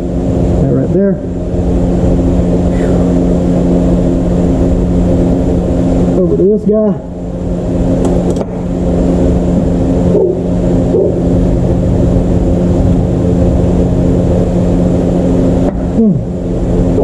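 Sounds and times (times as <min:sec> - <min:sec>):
noisy rush: 0:00.0 - 0:17.0
steady motor hum: 0:00.0 - 0:17.0.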